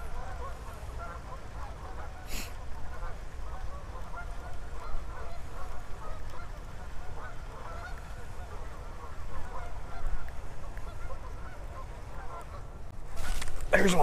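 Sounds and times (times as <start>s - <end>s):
geese honking: 0.0s - 14.0s.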